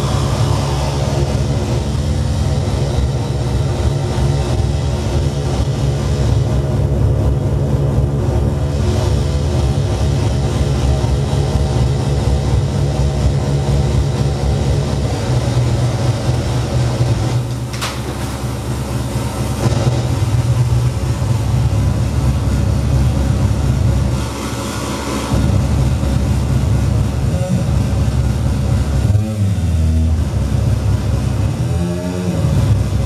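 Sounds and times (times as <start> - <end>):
deep amplified drone: 0.0 - 33.0.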